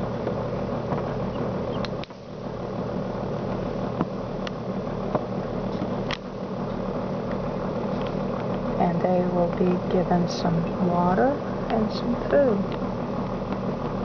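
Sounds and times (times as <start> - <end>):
incubator mechanical hum: 0.0 - 14.0.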